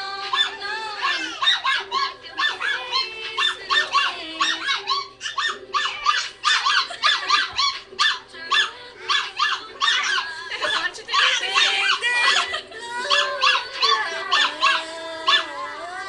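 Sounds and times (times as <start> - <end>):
squeaky falsetto singing: 0.0 - 16.0.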